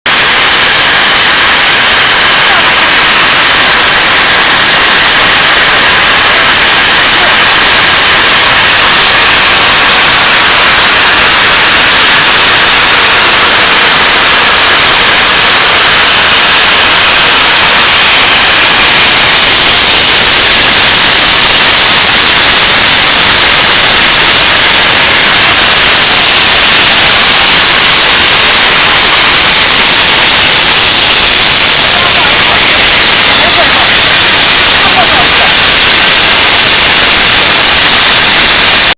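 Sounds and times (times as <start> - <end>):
polishing machine rushing noise: 0.1 - 38.9.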